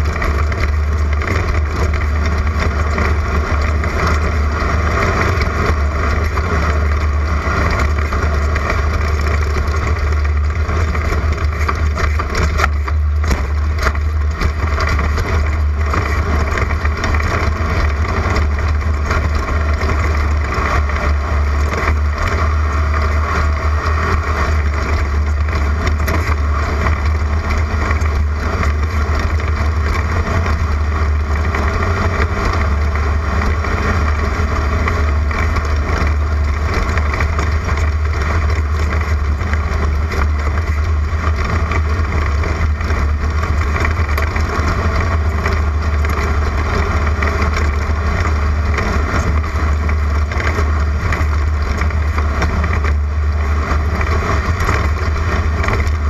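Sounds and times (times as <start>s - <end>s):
car engine running hard: 0.0s - 56.0s
knocks and rattles of car jolting: 0.0s - 56.0s.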